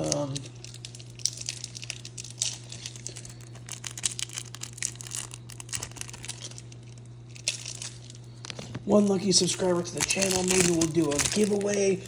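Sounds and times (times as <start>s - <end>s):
plastic packaging crinkling: 0.0s - 12.0s
steady low hum: 0.0s - 12.0s.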